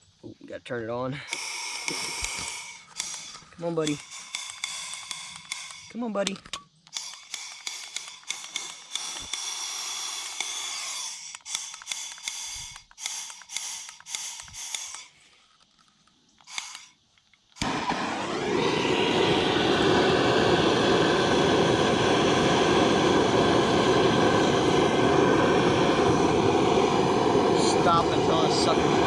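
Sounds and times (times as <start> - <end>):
gas hissing spurts: 1.1 - 29.0
gas burner rushing: 1.2 - 15.1, 16.4 - 29.0.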